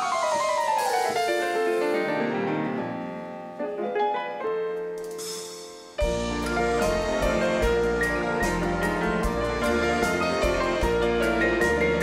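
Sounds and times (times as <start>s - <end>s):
grand piano chords: 0.0s - 12.0s.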